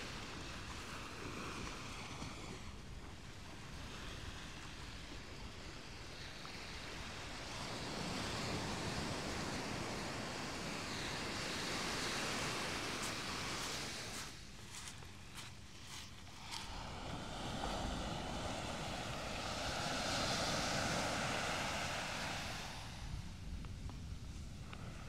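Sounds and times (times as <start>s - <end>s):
waves breaking on beach: 0.0s - 25.0s.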